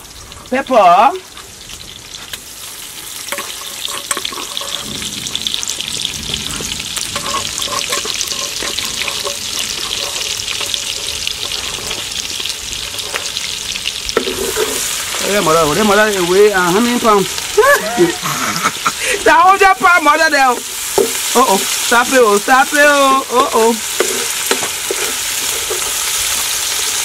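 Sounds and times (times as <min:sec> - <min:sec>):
onions frying in hot oil: 0:00.0 - 0:27.0.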